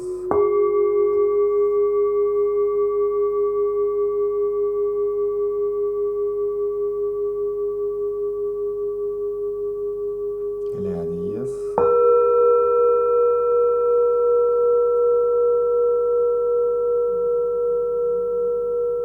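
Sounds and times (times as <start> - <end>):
singing bowl ringing: 0.0 - 19.0.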